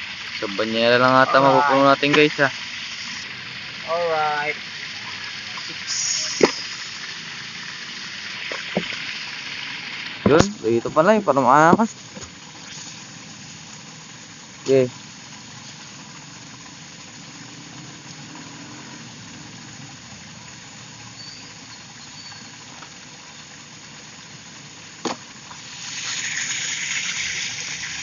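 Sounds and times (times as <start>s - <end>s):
rushing hiss: 0.0s - 28.0s.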